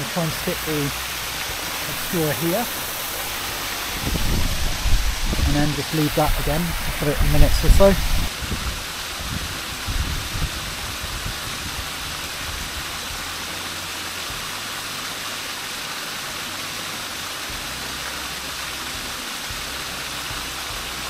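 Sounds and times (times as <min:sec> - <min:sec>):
small waterfall splashing: 0:00.0 - 0:21.0.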